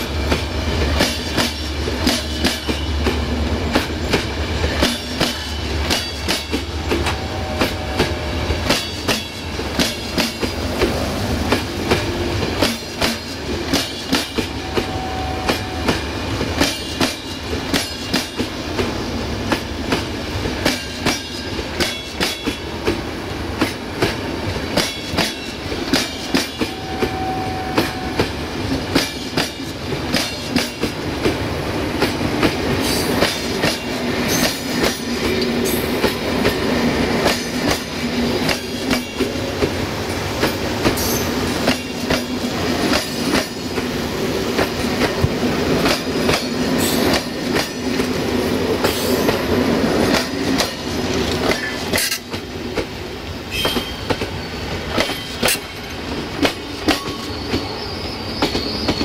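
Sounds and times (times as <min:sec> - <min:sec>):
wheels clacking over rail joints: 0:00.0 - 0:18.9, 0:19.5 - 0:59.0
train rolling rumble: 0:00.0 - 0:59.0.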